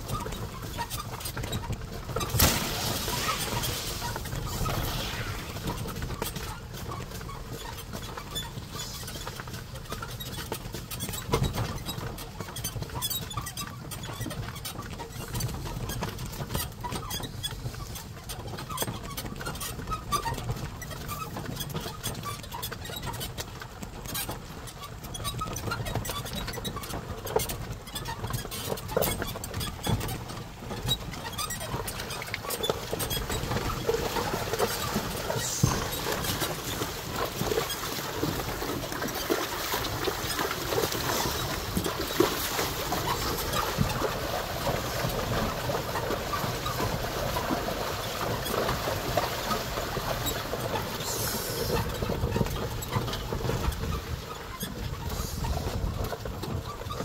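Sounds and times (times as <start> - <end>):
cart knocking and clattering: 0.0 - 57.0
cart rumbling: 0.0 - 57.0.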